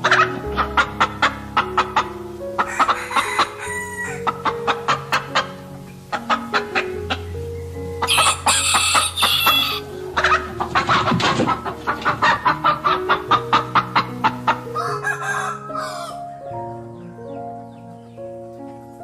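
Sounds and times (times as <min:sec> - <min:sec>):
background music with held notes: 0:00.0 - 0:19.0
chickens clucking: 0:00.0 - 0:19.0.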